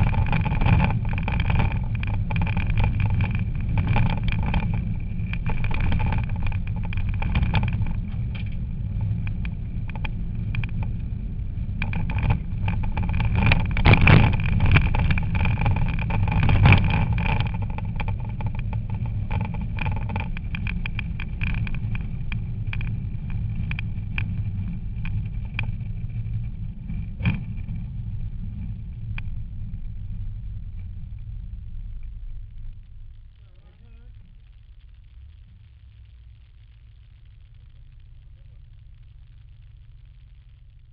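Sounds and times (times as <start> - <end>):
car engine under load: 0.0 - 40.9.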